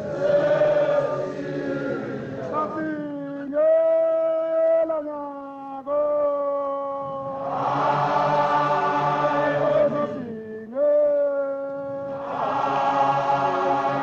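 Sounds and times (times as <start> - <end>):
chant-like singing music: 0.0 - 3.8, 5.8 - 14.0.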